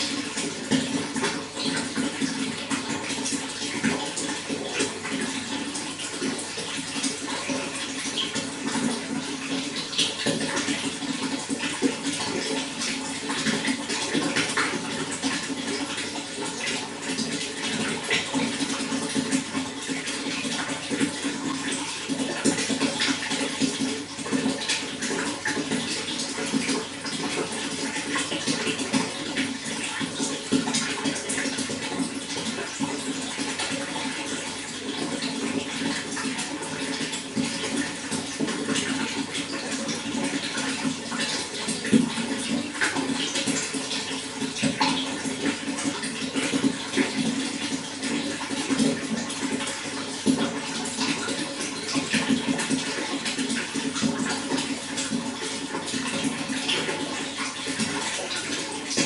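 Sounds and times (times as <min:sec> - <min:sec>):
running water burbling: 0:00.0 - 0:59.0.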